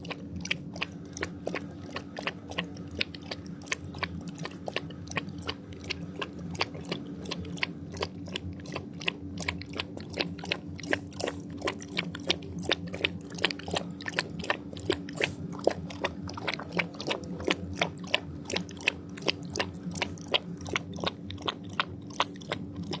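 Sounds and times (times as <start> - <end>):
animals crunching and pecking: 0.0 - 23.0
steady low hum: 0.0 - 23.0.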